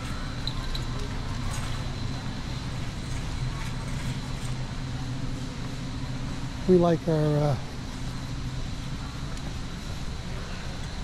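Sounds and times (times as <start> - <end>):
low warehouse hum: 0.0 - 11.0
shopping cart rolling on concrete: 0.0 - 11.0.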